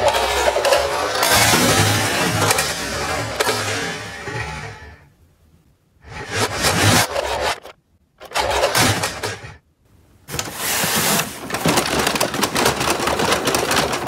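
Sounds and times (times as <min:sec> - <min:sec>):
plastic toy trucks rattling: 0:00.0 - 0:05.0, 0:06.1 - 0:09.6, 0:10.3 - 0:14.0.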